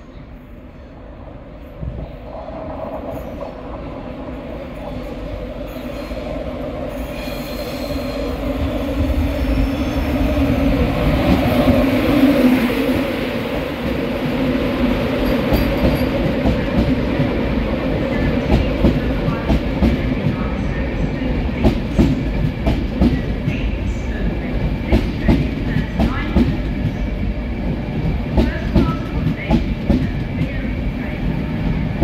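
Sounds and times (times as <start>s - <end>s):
electric train rumble: 0.0s - 32.0s.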